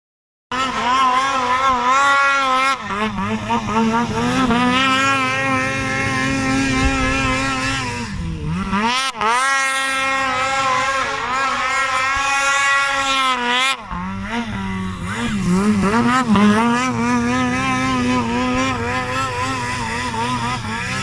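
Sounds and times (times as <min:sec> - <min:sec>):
snowmobile engine revving: 0:00.5 - 0:21.0.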